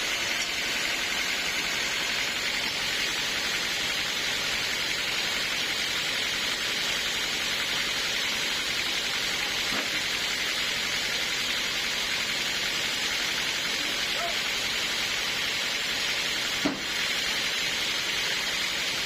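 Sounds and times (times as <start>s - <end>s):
sawmill saw cutting log: 0.0s - 19.0s.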